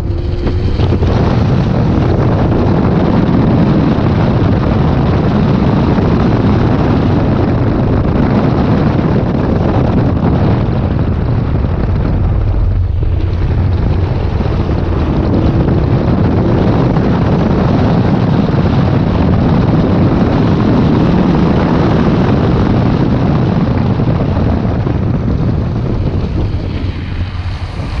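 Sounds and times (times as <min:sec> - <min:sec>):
car engine driven hard: 0:00.0 - 0:28.0
wind noise: 0:00.0 - 0:28.0.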